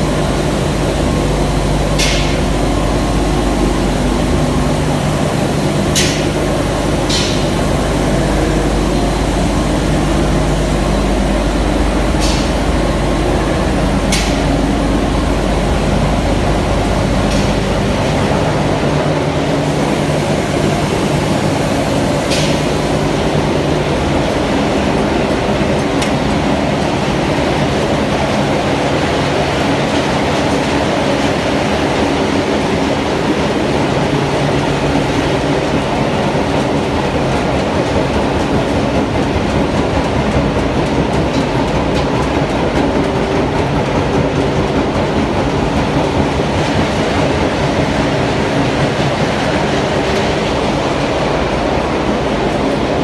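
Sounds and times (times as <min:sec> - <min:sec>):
industrial machinery din: 0:00.0 - 0:53.0.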